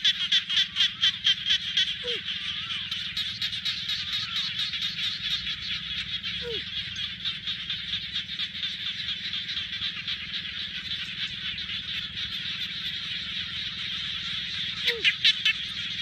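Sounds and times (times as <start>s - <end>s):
chorus of small animals calling: 0.0s - 16.0s.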